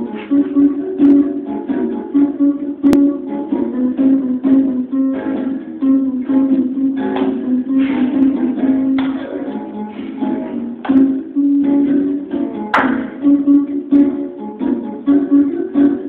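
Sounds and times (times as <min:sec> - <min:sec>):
plucked string instrument music: 0:00.0 - 0:16.0.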